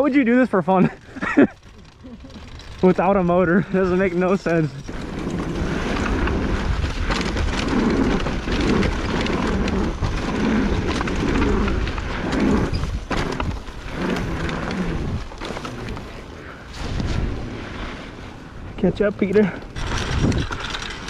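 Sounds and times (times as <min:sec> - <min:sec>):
tyres rumbling over dirt trail: 0:00.0 - 0:21.0
wind buffeting microphone: 0:00.9 - 0:21.0.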